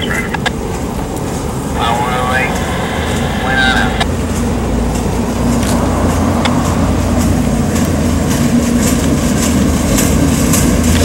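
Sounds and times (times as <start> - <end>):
diesel locomotive droning: 0.0 - 11.0.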